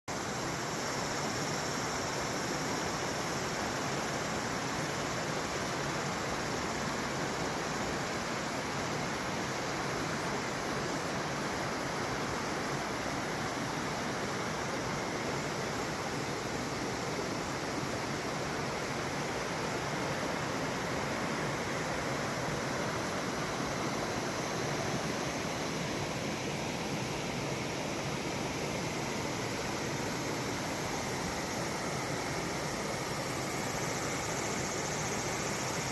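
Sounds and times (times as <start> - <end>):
stream rushing: 0.1 - 35.9.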